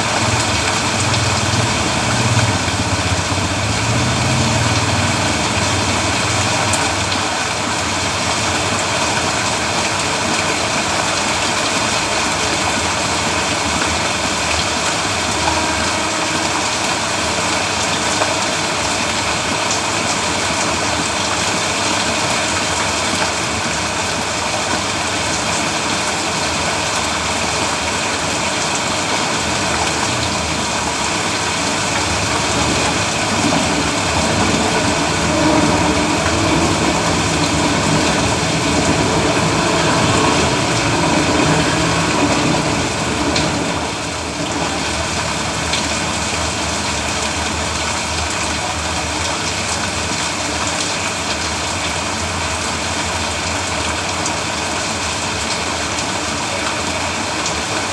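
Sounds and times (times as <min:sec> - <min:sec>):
heavy rain on a road: 0:00.0 - 0:57.9.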